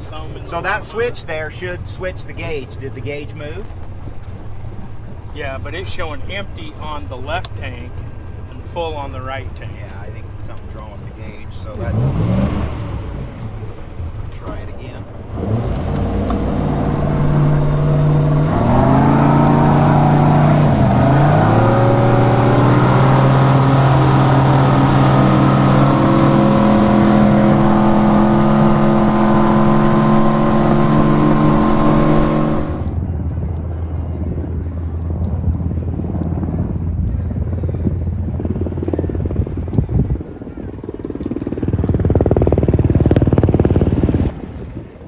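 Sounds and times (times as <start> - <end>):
boat engine running: 0.0 - 44.5.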